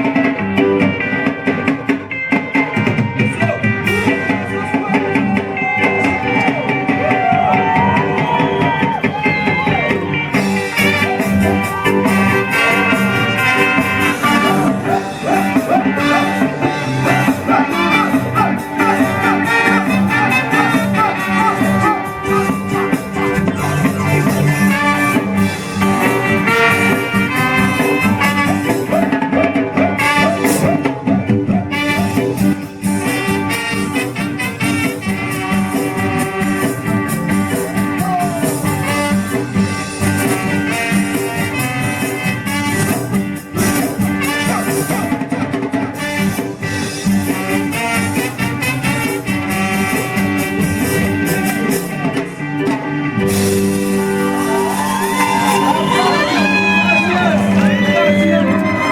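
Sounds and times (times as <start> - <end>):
ska band music: 0.0 - 58.9.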